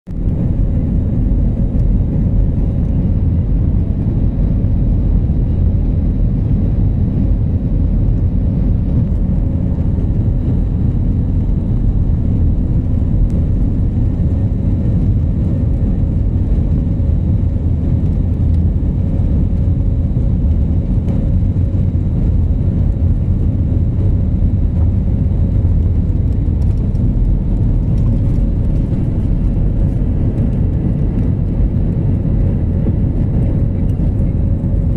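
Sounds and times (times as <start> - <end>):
faint cabin hum: 0.1 - 34.9
jet engines roaring: 0.1 - 34.9
runway rumble: 0.1 - 34.9.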